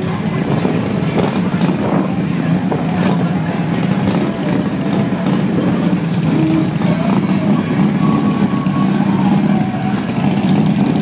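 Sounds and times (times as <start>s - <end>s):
crowd voices: 0.0s - 11.0s
motorcycle engines rumbling: 0.0s - 11.0s.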